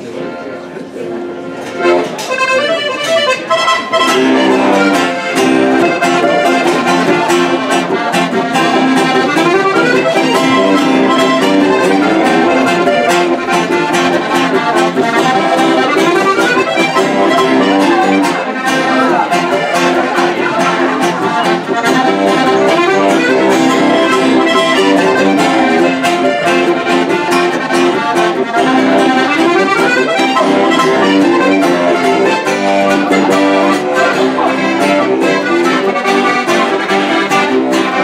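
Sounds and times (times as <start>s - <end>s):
acoustic guitar strumming: 0.0s - 38.0s
button accordion melody: 0.0s - 38.0s.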